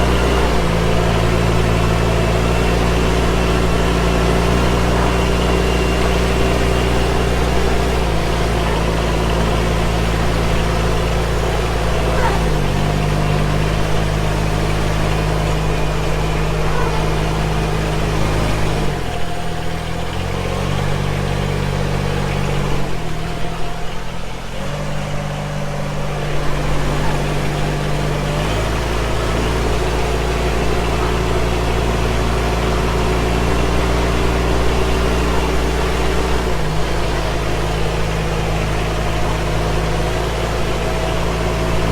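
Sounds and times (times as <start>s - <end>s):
rice transplanter engine running: 0.0s - 41.9s.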